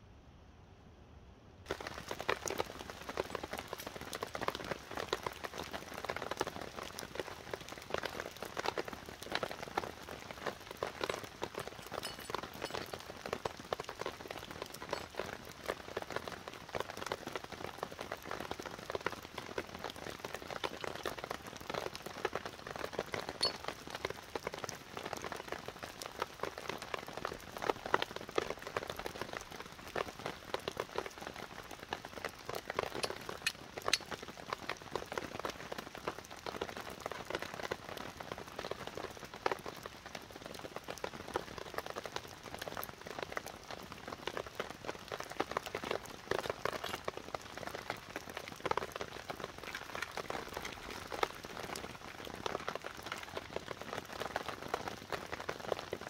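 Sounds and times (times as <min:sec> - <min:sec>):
rain pattering on a tarp: 0:01.6 - 0:56.0.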